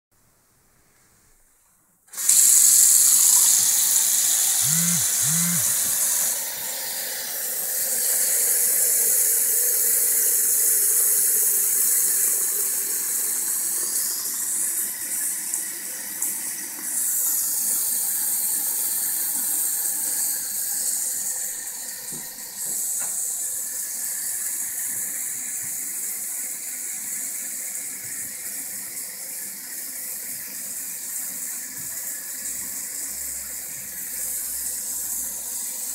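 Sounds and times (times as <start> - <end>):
faucet water splashing into basin: 2.2 - 35.9.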